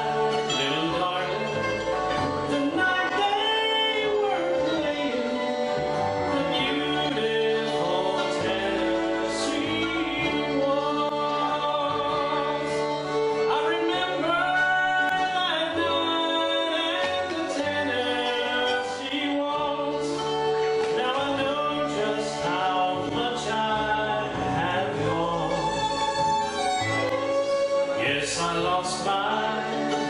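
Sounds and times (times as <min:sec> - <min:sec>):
bluegrass band playing live: 0:00.0 - 0:30.0
sliding fiddle melody: 0:00.0 - 0:30.0.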